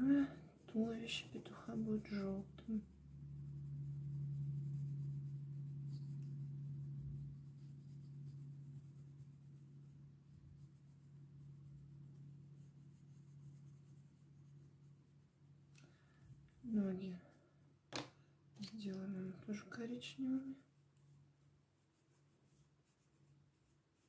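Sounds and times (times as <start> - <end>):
oil pastel rubbing on paper: 0.0 - 16.8, 19.4 - 24.0
low steady hum: 0.0 - 24.0.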